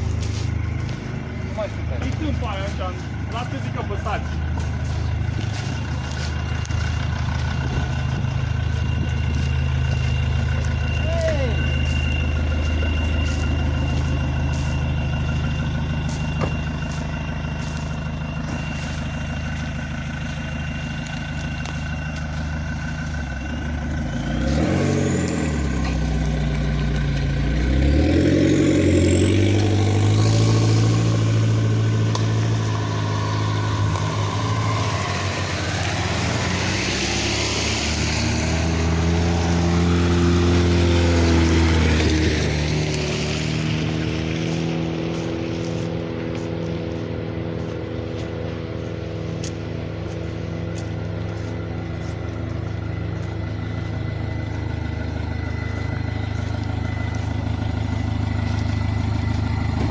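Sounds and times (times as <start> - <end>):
suv engine idling: 0.0 - 59.9
vehicles driving slowly past: 0.0 - 59.9.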